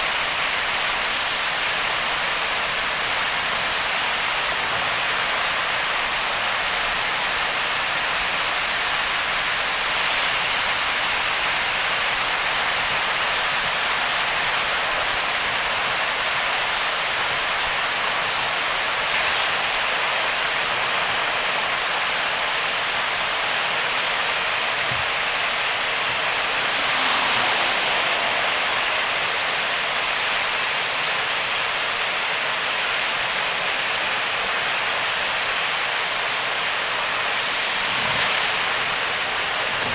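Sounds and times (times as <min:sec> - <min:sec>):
heavy rain: 0:00.0 - 0:39.9
tyres spraying on wet road: 0:00.0 - 0:39.9.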